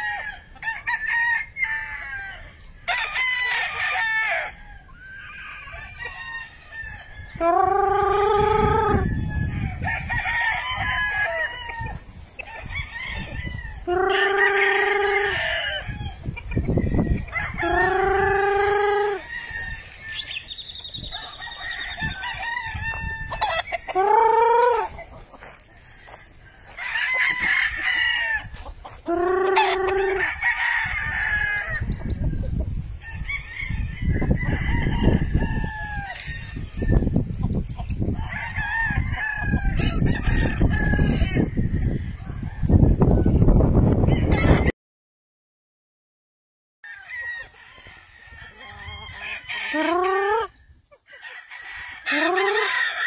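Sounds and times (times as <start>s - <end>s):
roosters crowing: 0.0s - 44.7s, 46.8s - 53.0s.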